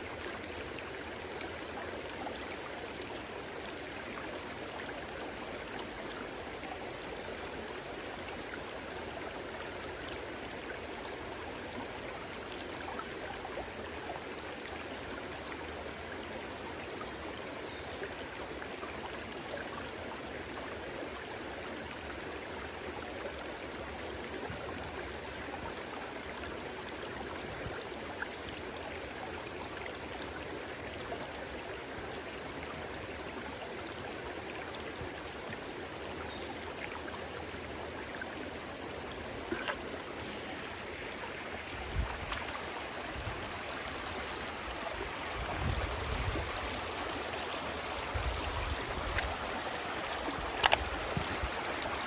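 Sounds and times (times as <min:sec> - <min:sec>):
stream babbling: 0:00.0 - 0:52.0.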